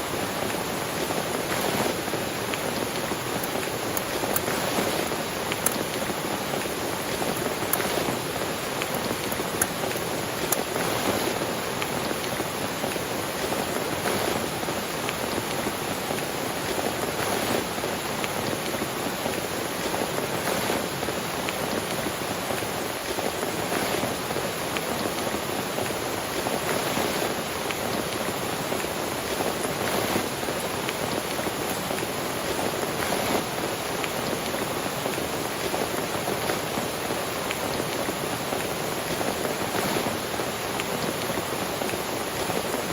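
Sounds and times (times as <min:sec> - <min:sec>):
rain falling on a tent: 0:00.0 - 0:42.9.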